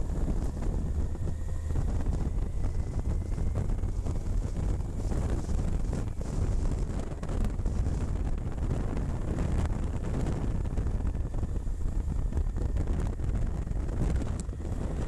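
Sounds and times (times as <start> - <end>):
motorcycle riding noise: 0.0 - 15.0
wind buffeting microphone: 0.0 - 15.0.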